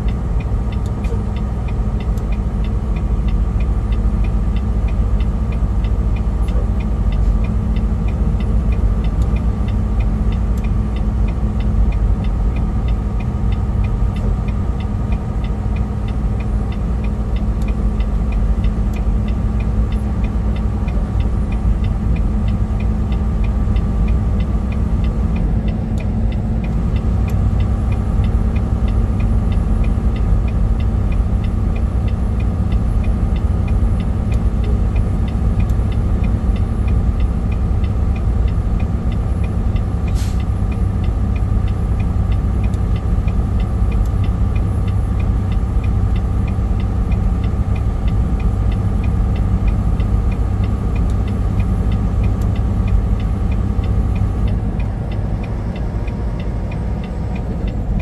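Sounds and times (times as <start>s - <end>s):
fast light ticking: 0.0s - 58.0s
truck engine and road rumble: 0.0s - 58.0s.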